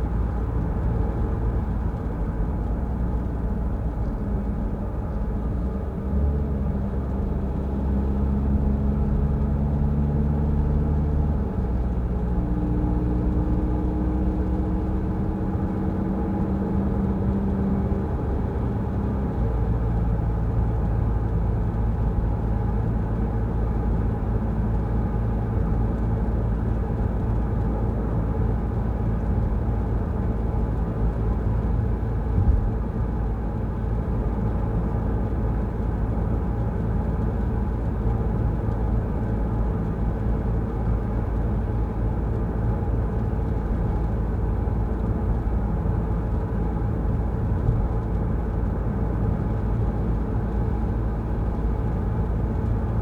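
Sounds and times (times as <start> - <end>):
car engine hum: 0.0 - 53.0.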